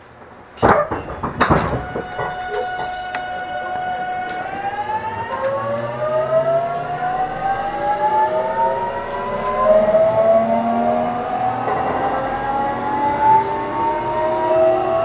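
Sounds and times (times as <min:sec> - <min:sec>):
electric train motor whine rising: 0:01.8 - 0:15.0.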